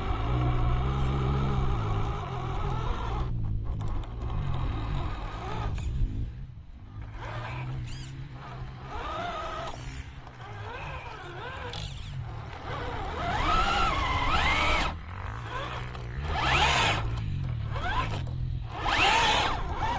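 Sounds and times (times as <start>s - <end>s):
toy car electric motor whining: 0.0s - 6.0s, 7.0s - 19.9s.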